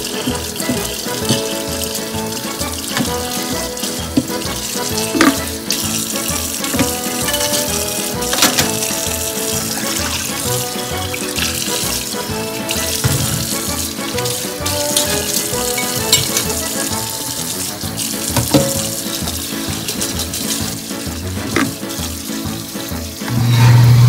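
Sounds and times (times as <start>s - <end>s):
background music: 0.0s - 24.0s
tap water running into sink: 0.0s - 24.0s
spoons clinking: 0.1s - 12.0s, 12.6s - 20.8s.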